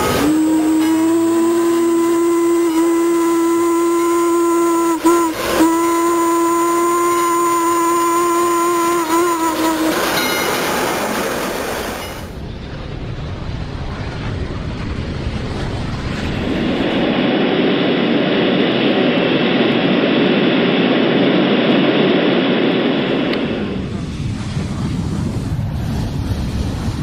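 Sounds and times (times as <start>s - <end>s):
airplane engine drone: 0.0s - 27.0s.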